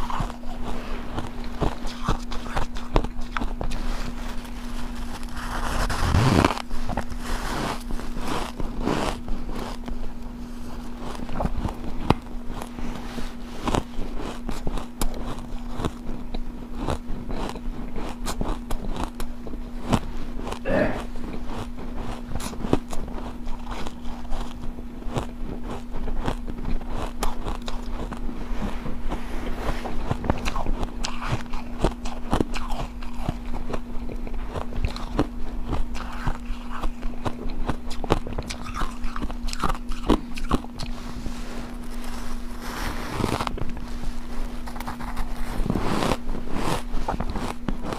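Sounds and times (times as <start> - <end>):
chewing ice crunches: 0.0 - 47.9
steady low hum: 0.0 - 47.9.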